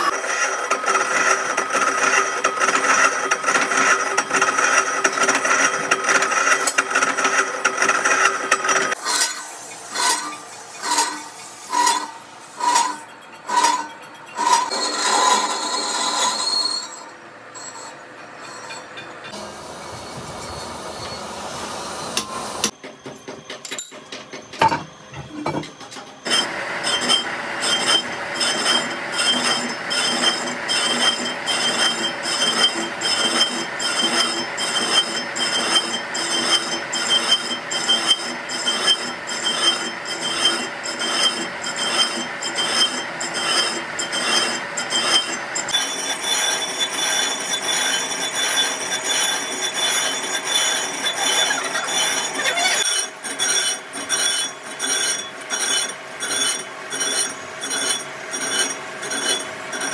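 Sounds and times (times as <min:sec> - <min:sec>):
metal lathe cutting: 0:00.0 - 0:22.8, 0:26.3 - 0:59.9
high metallic ringing: 0:08.1 - 0:15.0, 0:15.6 - 0:21.4, 0:23.5 - 0:59.9.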